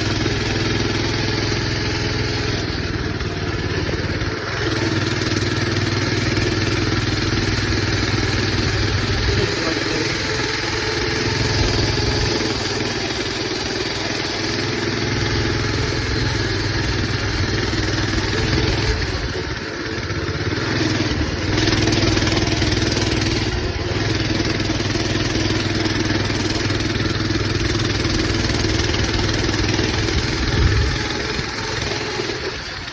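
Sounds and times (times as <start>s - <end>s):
minibike engine running: 0.0s - 32.9s.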